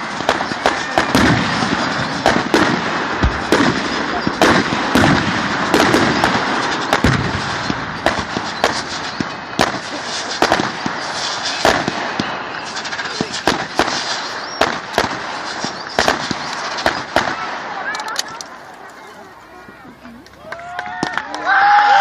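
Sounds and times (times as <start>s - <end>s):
fireworks bangs: 0.0s - 21.5s
fireworks crackle: 0.0s - 21.5s.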